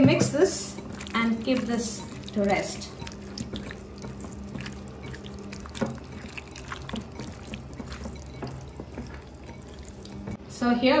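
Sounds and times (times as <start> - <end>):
hand squishing raw fish: 0.6 - 10.4.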